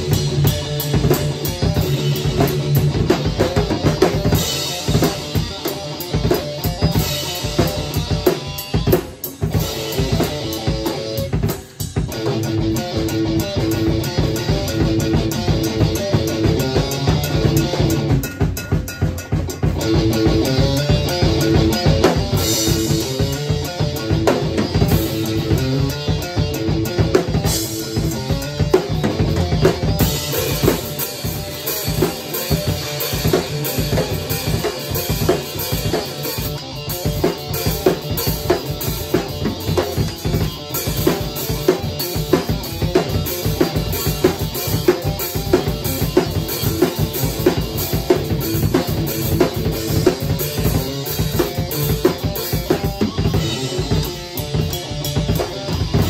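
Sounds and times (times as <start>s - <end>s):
drum kit beat: 0.0s - 56.0s
electric guitar riff: 0.0s - 56.0s.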